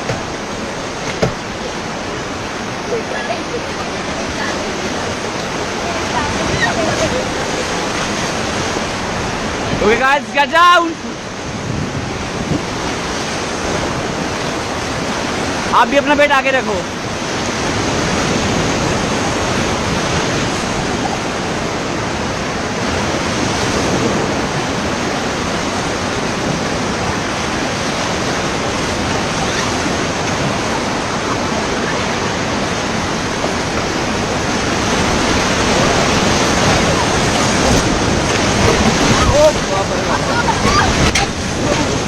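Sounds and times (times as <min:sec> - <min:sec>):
river rapids rushing: 0:00.0 - 0:42.0.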